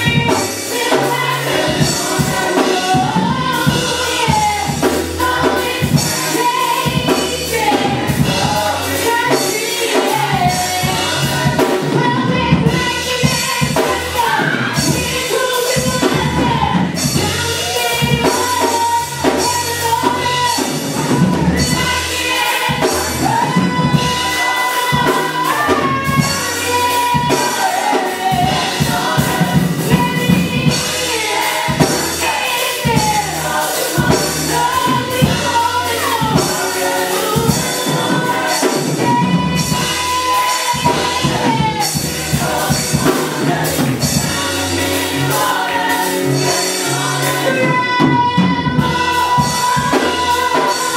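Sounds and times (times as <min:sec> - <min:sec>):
bass line: 0:00.0 - 0:50.9
drum kit: 0:00.0 - 0:50.9
people singing gospel: 0:00.0 - 0:50.9.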